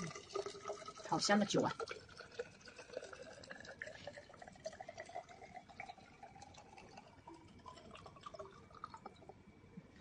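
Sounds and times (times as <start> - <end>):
liquid trickling into a glass cylinder: 0.0 - 10.0.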